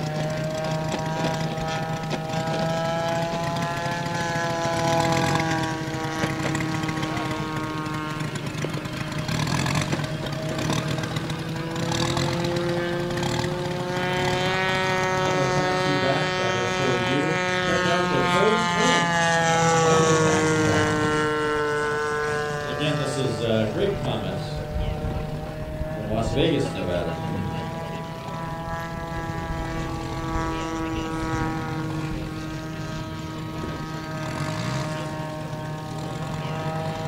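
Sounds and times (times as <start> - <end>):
model plane engine idling: 0.0 - 37.0.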